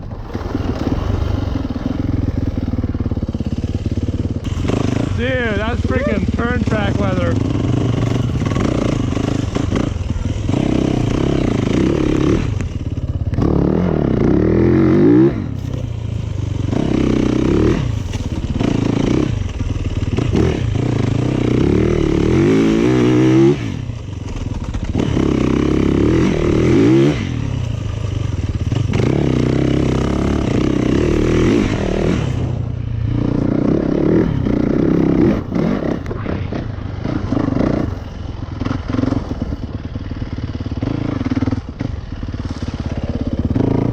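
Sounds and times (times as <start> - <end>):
dirt bike engine revving: 0.2 - 43.9.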